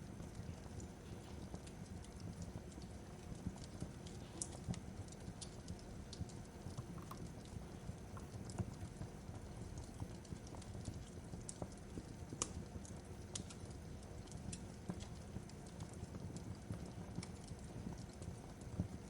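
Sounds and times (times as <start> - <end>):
low rumble of burning: 0.0 - 19.0
wood fire crackling and popping: 0.0 - 19.0.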